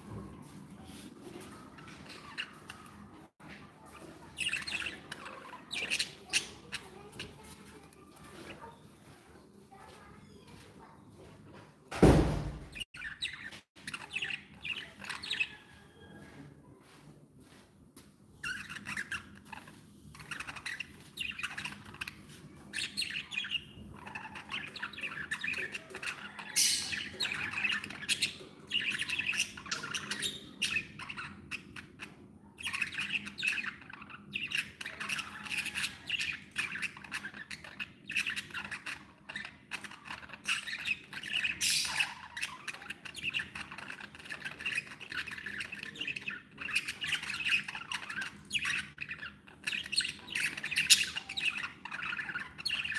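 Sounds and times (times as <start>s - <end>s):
budgerigars chattering and chirping: 0.9s - 9.2s, 12.7s - 16.4s, 18.4s - 52.9s.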